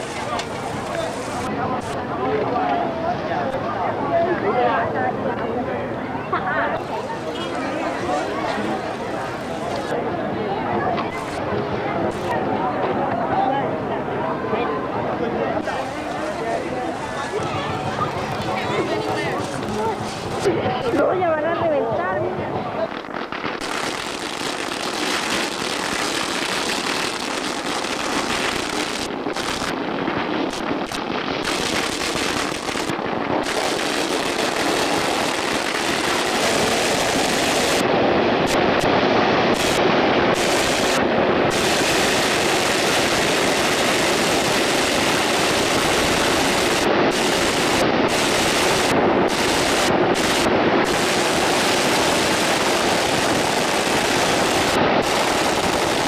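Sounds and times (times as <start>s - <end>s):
firecrackers crackling: 0.0s - 5.5s, 6.6s - 13.3s, 15.1s - 56.0s.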